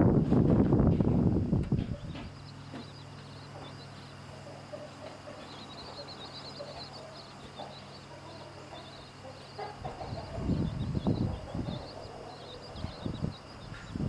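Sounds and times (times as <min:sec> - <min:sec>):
chicks peeping: 0:00.0 - 0:14.0
steady low hum: 0:00.0 - 0:14.0
hen clucking softly: 0:01.7 - 0:14.0.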